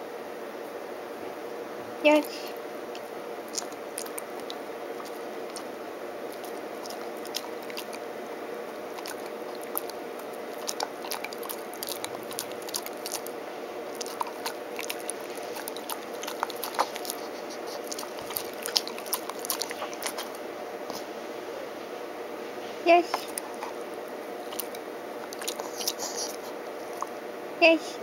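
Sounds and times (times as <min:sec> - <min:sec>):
steady low hum: 0:00.0 - 0:28.0
dog chewing crunchy treats: 0:02.1 - 0:21.1, 0:23.0 - 0:27.2.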